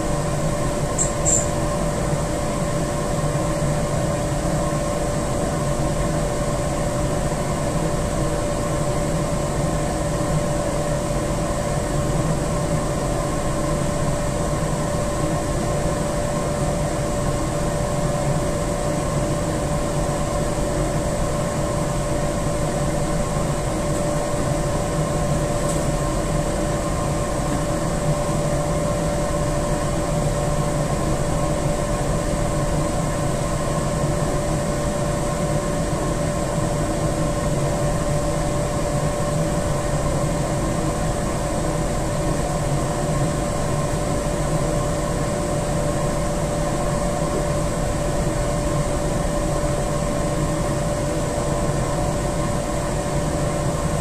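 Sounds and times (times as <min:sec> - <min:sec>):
constant machine whine: 0:00.0 - 0:54.0
machinery hum of fans and motors: 0:00.0 - 0:54.0.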